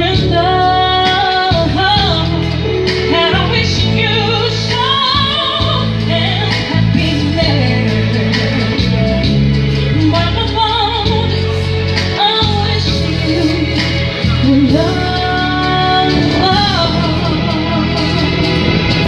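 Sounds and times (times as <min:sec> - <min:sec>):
woman singing: 0:00.0 - 0:08.9, 0:10.0 - 0:19.0
backing track bass and drums: 0:00.0 - 0:19.0.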